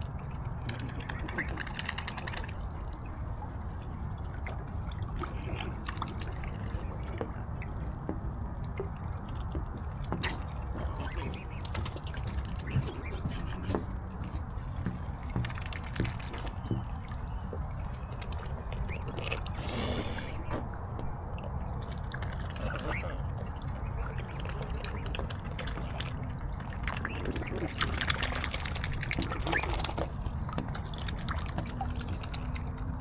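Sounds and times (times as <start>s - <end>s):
steady low rumble: 0.0s - 33.0s
water splashing and dripping: 0.0s - 33.0s.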